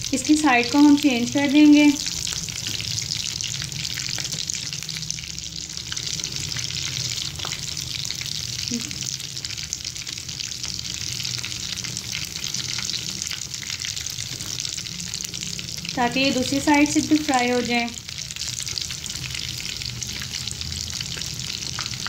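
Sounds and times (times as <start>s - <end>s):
cutlets sizzling in hot oil: 0.0s - 22.0s.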